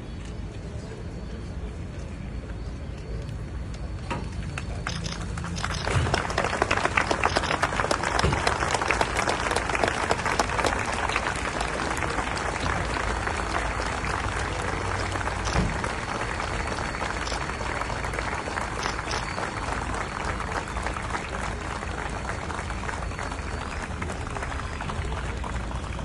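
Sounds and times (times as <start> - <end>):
crowd applauding: 4.4 - 26.0.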